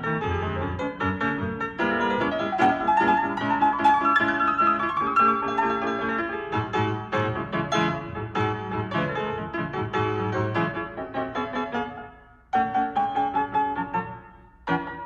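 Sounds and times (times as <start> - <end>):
bouncy solo piano music: 0.0 - 15.0.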